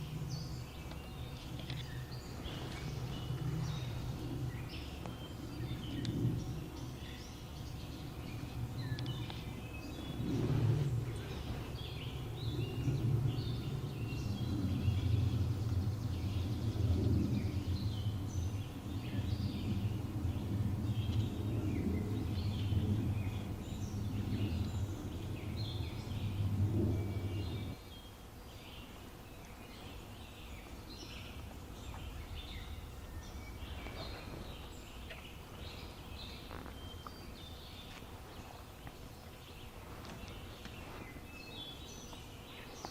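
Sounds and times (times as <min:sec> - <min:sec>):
low uneven rumble: 0:00.0 - 0:27.8, 0:29.8 - 0:42.9
small birds chirping: 0:00.0 - 0:42.9.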